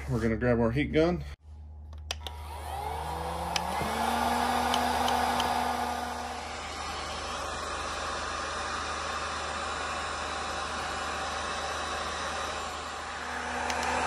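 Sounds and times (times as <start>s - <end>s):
motor hum: 1.9s - 14.0s
heat gun blowing air: 2.2s - 14.0s.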